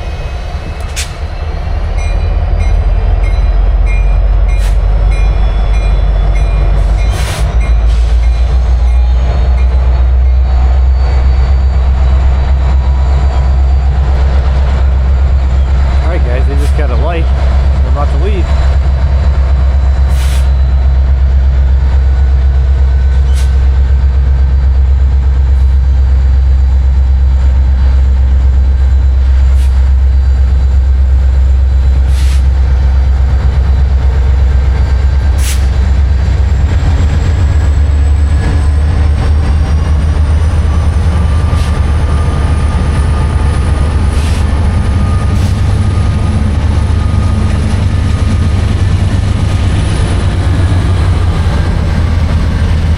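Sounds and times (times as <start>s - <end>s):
train rumbling on tracks: 0.0s - 52.9s.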